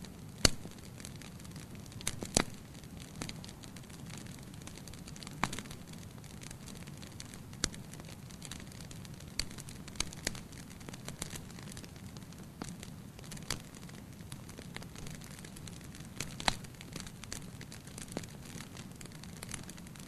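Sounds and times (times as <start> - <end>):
fire pops and crackles: 0.0 - 20.0.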